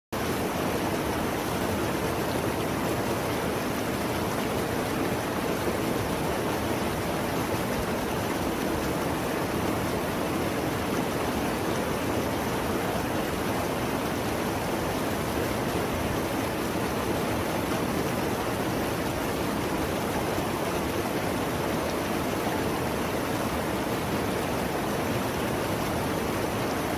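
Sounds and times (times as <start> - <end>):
mountain river rushing: 0.2 - 26.9.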